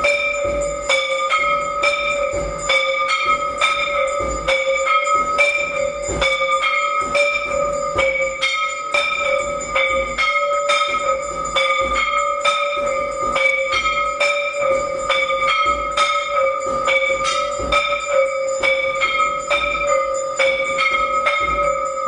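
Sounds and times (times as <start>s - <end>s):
temple bells ringing: 0.0s - 22.0s.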